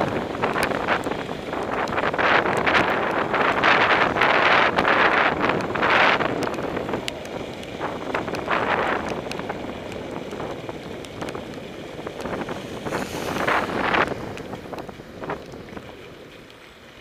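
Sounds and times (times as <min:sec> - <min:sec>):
wind buffeting microphone: 0:00.0 - 0:16.6
road noise: 0:00.0 - 0:17.0.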